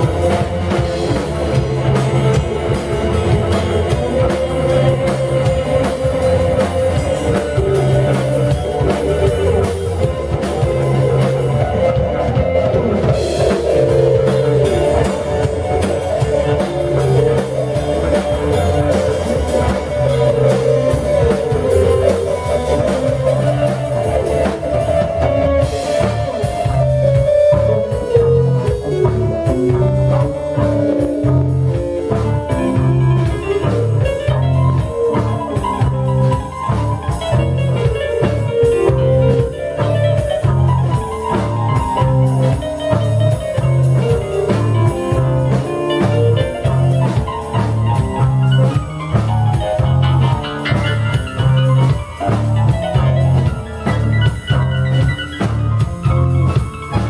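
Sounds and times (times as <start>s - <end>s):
drum kit beat: 0.0s - 57.0s
melodic lead line: 0.0s - 57.0s
repeating bass line: 0.0s - 57.0s.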